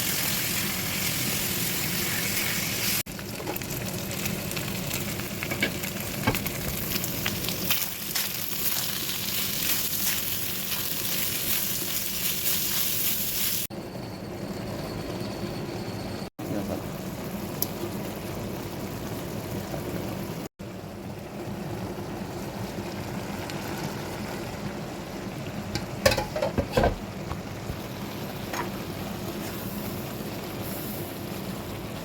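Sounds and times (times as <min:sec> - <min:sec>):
stir-fry sizzling in a hot pan: 0:00.0 - 0:13.7, 0:16.4 - 0:32.0.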